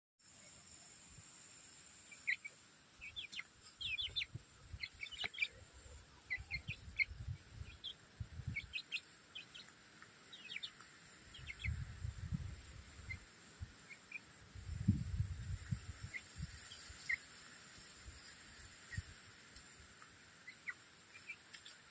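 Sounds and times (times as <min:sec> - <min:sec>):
chicks peeping: 0:02.1 - 0:17.3, 0:18.0 - 0:21.9.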